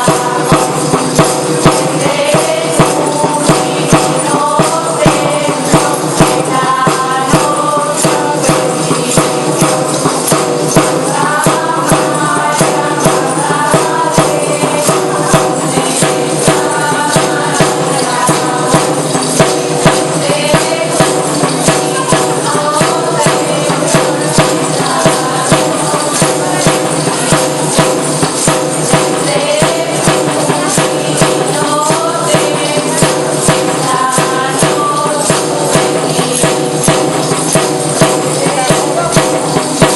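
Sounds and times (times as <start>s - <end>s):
tambourines beating a rhythm: 0.0s - 39.9s.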